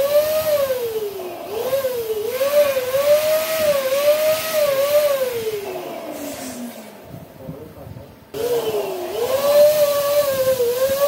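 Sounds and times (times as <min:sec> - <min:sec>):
air rushing into balloon: 0:00.0 - 0:07.5, 0:08.4 - 0:11.0
electric pump motor whine: 0:00.0 - 0:07.7, 0:08.3 - 0:11.0.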